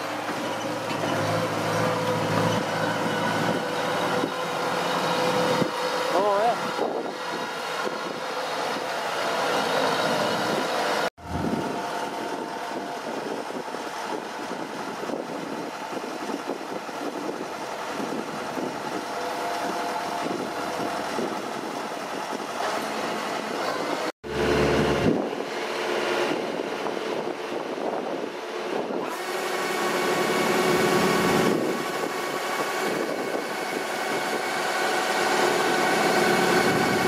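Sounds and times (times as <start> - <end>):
combine harvester engine running: 0.0 - 37.0.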